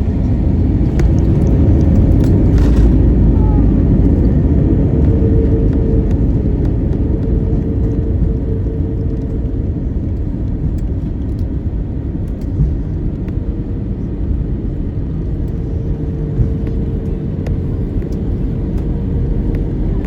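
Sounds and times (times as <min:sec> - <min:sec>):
aircraft cabin rumble: 0:00.0 - 0:20.0
faint hum: 0:00.0 - 0:20.0.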